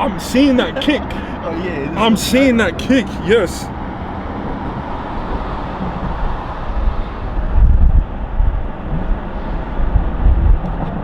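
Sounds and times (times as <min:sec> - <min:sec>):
low wind buffets: 0:00.0 - 0:11.0.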